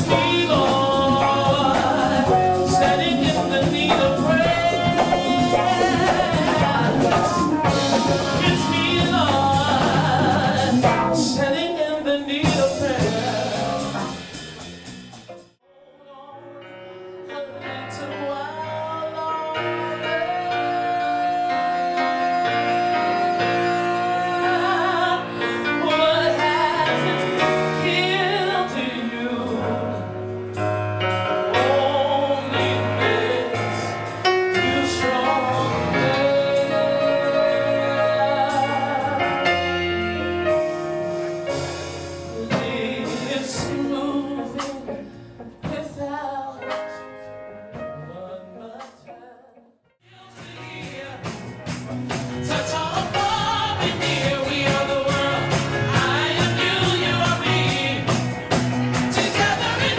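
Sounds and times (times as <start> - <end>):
person singing: 0.0 - 14.1, 15.6 - 30.2, 31.4 - 40.8, 41.5 - 47.2, 47.8 - 58.4, 59.1 - 59.9
instrumental backing music: 0.0 - 59.9.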